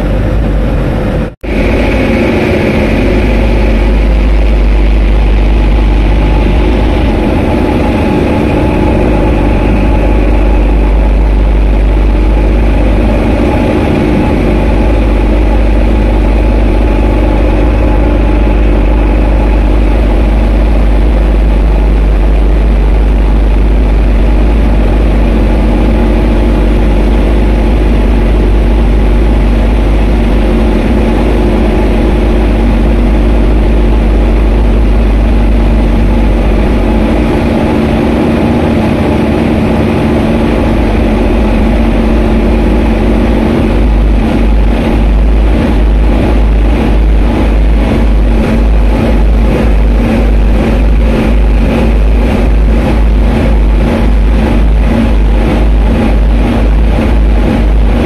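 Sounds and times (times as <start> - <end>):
boat diesel engine droning: 0.0 - 58.0
propeller wash rushing: 0.0 - 58.0.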